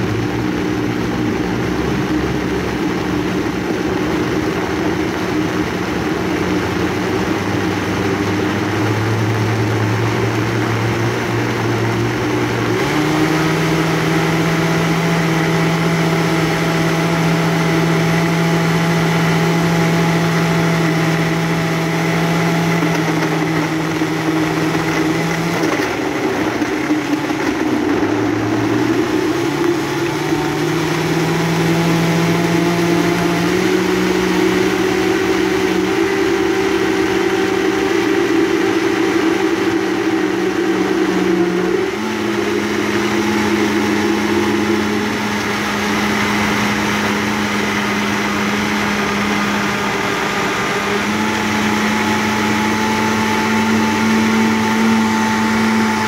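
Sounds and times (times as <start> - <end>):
blender motor whining: 0.0 - 56.0.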